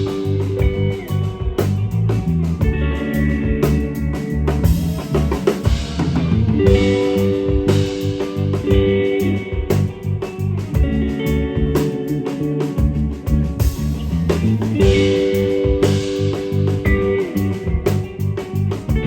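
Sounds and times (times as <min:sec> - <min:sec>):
band music: 0:00.0 - 0:19.0
drum kit beat: 0:00.0 - 0:19.0.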